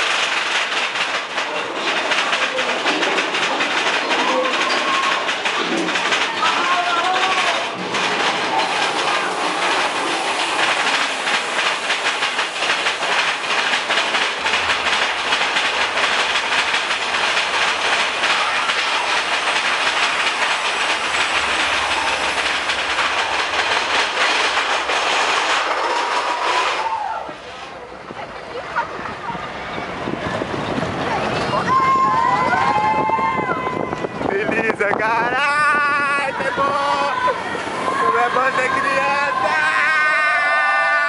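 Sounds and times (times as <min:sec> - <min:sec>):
roller coaster cars rattling: 0:00.0 - 0:41.0.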